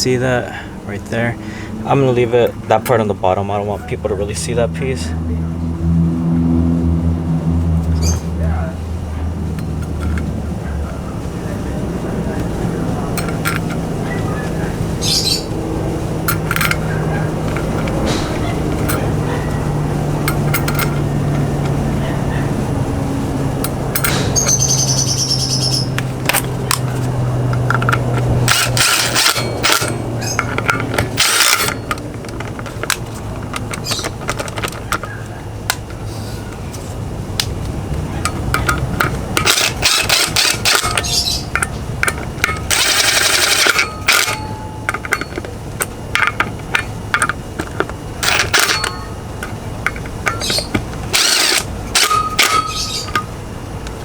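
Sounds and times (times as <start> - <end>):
metal parts and tools clinking: 9.4 - 22.8, 23.5 - 54.0.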